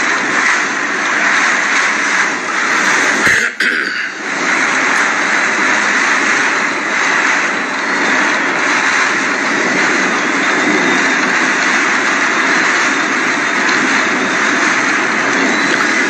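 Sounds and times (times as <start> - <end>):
driving rain: 0.0 - 16.0
strong wind blowing: 0.0 - 16.0.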